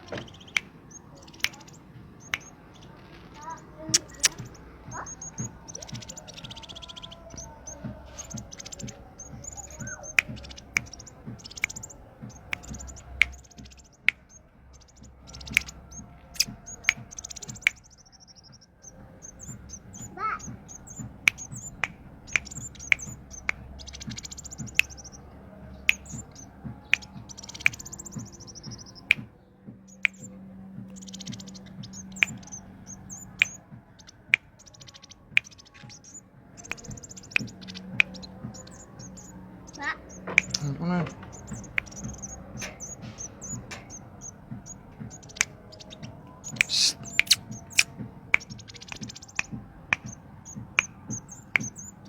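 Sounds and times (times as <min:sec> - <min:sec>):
sharp clicks: 0:00.0 - 0:17.9, 0:19.4 - 0:25.2, 0:30.0 - 0:50.2
songbird chirping and trilling: 0:00.0 - 0:52.0.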